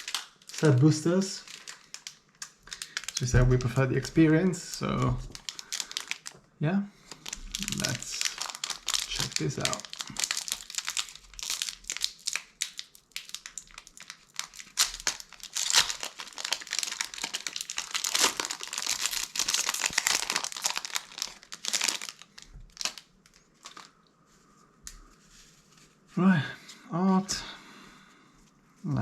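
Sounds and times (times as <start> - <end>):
plastic wrapper crinkling and tearing: 0.0 - 24.1.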